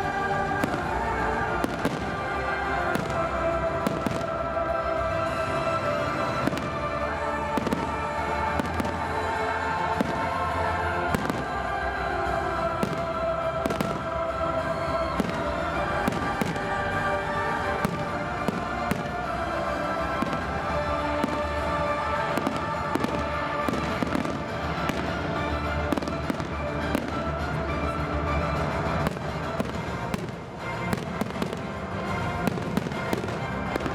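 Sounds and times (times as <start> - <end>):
fireworks bangs and crackles: 0.0 - 33.9
music playing: 0.0 - 33.9.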